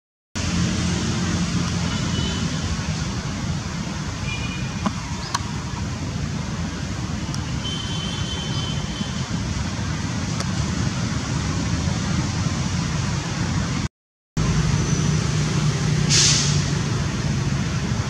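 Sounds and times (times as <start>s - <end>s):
road traffic rumble: 0.4s - 18.0s.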